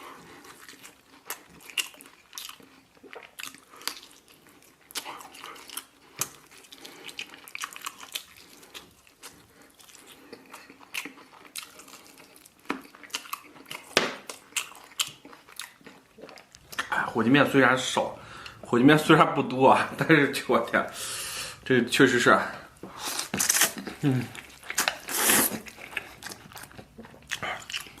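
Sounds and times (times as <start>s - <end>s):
wet chewing and smacking: 0.0s - 17.1s, 22.7s - 28.0s.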